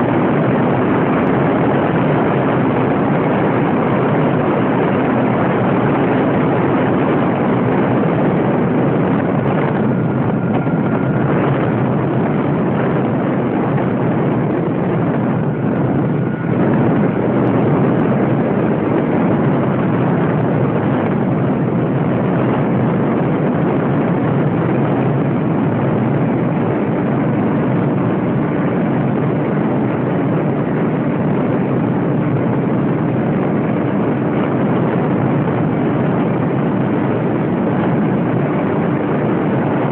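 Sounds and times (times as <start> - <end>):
model airplane motor and propeller: 0.0 - 39.9
rushing wind noise: 0.0 - 39.9.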